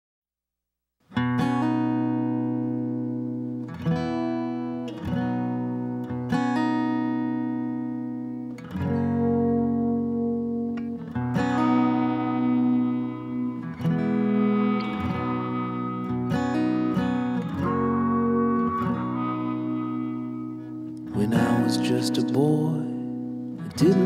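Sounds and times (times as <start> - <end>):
guitar chords strummed: 1.1 - 24.0.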